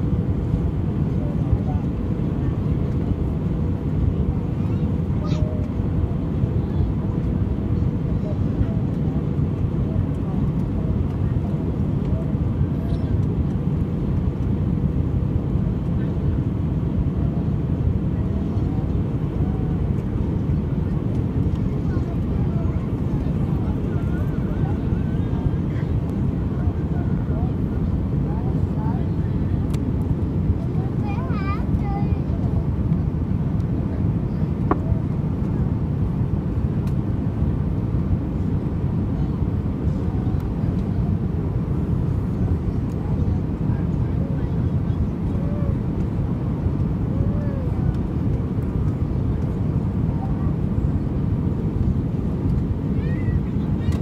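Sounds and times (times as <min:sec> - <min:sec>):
airliner rumble: 0:00.0 - 0:54.0.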